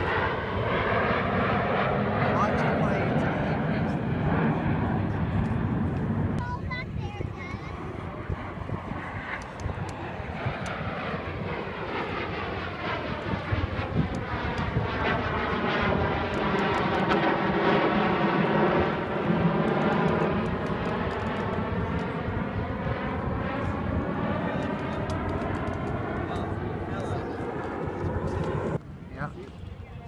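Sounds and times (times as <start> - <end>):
jet engines passing: 0.0 - 30.0.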